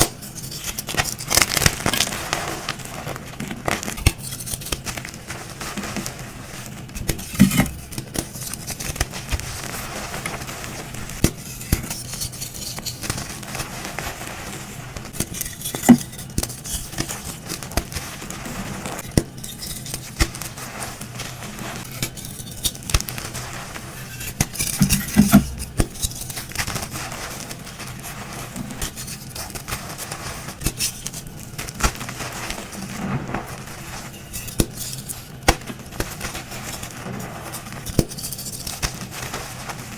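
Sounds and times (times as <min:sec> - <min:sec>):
chalk crunching and cracking: 0:00.0 - 0:39.9.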